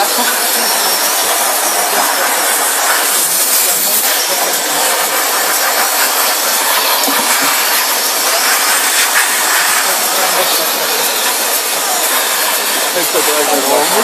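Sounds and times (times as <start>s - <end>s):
blow dryer rushing air: 0.0s - 14.0s.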